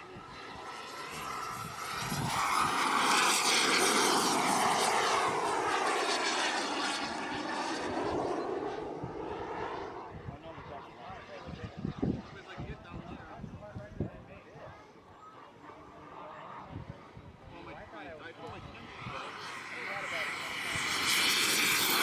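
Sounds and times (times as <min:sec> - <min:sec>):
model jet turbine engine: 0:00.0 - 0:22.0.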